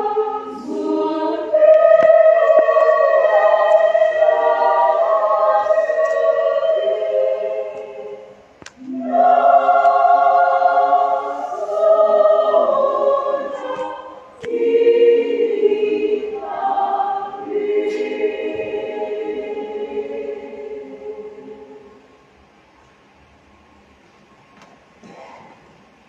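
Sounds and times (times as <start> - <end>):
women's choir singing a hymn: 0.0 - 22.2.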